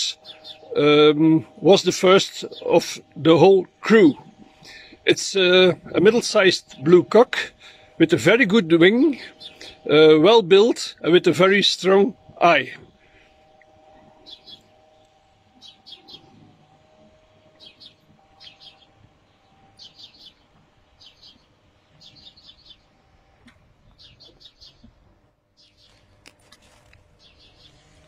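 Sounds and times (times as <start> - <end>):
faint steady hum: 0.0 - 28.0
small birds chirping: 0.0 - 28.0.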